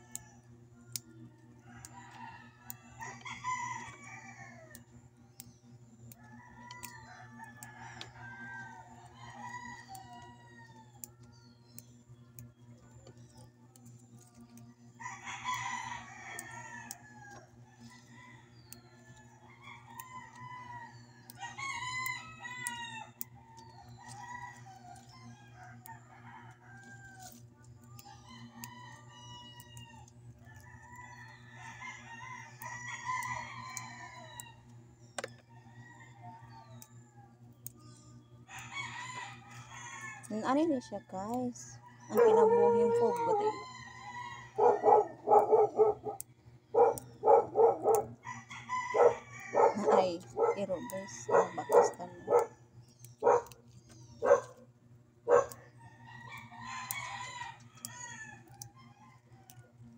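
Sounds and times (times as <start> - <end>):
rooster crowing: 0.0 - 5.0, 6.0 - 11.2, 14.9 - 37.8, 38.5 - 53.6, 55.3 - 59.9
steady low hum: 0.0 - 59.9.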